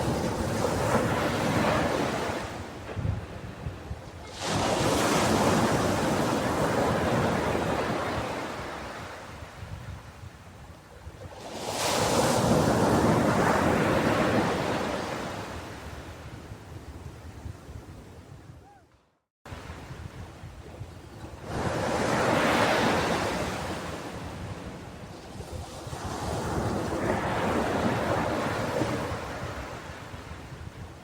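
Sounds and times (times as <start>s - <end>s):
ocean waves breaking on shore: 0.0s - 18.4s, 19.5s - 31.0s.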